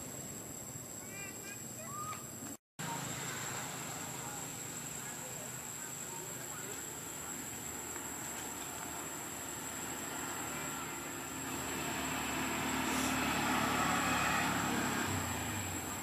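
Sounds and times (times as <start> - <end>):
vehicle passing by: 2.8 - 16.0.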